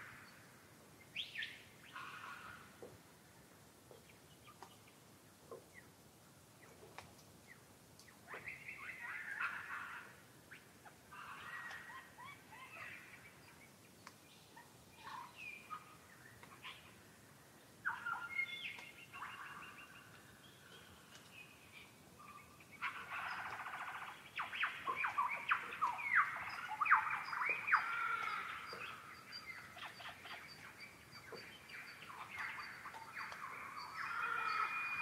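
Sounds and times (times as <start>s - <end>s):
wild birds calling and singing: 0.0s - 3.1s, 6.6s - 35.0s.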